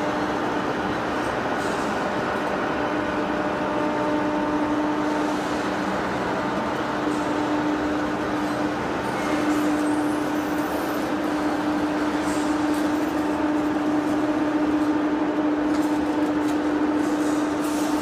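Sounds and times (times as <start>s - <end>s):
steady machinery hum: 0.0s - 18.0s.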